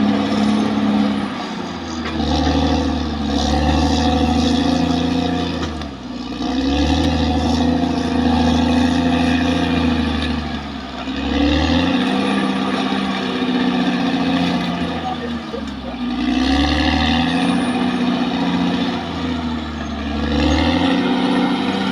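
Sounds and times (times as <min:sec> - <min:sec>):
bulldozer diesel engine under load: 0:00.0 - 0:21.9.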